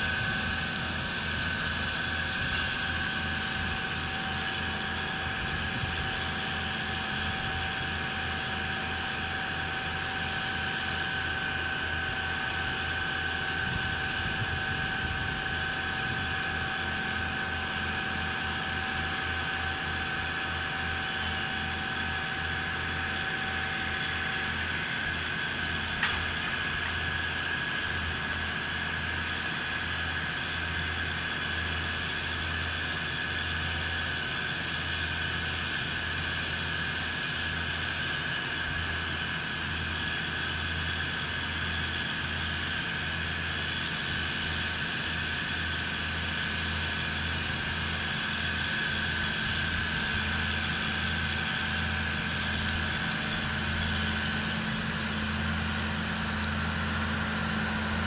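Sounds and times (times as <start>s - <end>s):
engine running with high whine: 0.0s - 58.0s
second lower whine: 0.0s - 58.0s.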